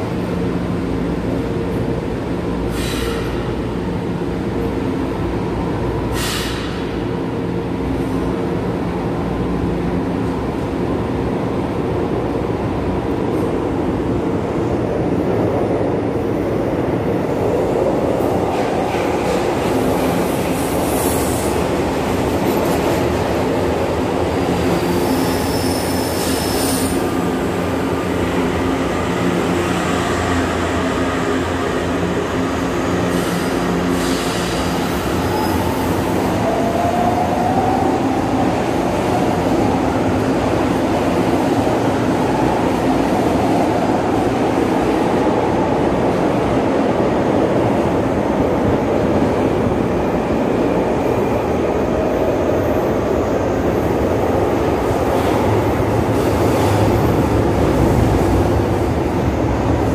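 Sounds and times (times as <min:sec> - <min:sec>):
train rumble and hum: 0:00.0 - 0:59.9.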